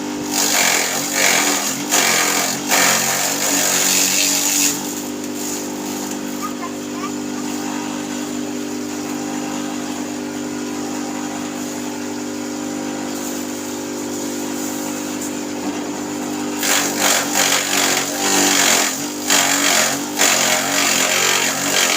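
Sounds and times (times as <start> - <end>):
grass chopper rasping: 0.0 - 21.9
small engine running: 0.0 - 21.9.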